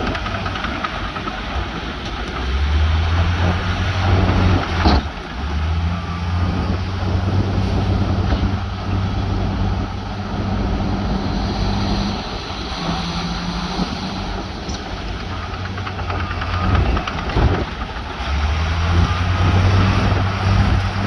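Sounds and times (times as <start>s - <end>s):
diesel machine running: 0.0s - 21.0s.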